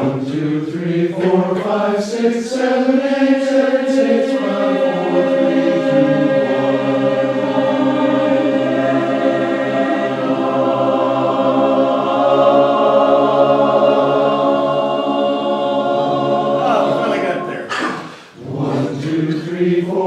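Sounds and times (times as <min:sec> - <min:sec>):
a cappella chorus singing: 0:00.0 - 0:20.0.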